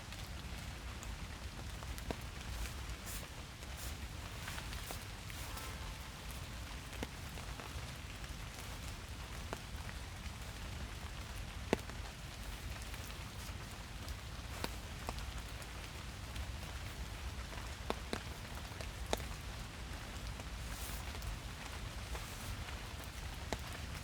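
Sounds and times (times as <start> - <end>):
rain falling: 0.0 - 24.0
raindrops ticking close by: 0.0 - 24.0.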